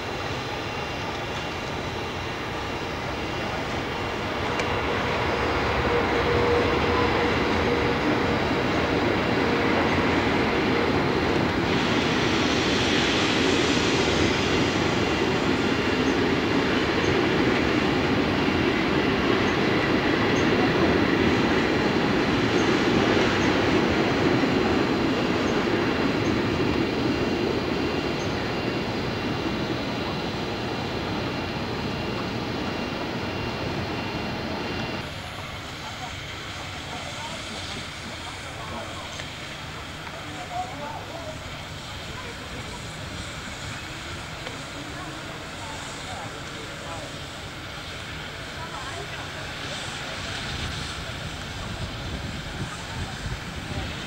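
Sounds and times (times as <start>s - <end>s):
steam locomotive chugging slowly: 0.0s - 54.0s.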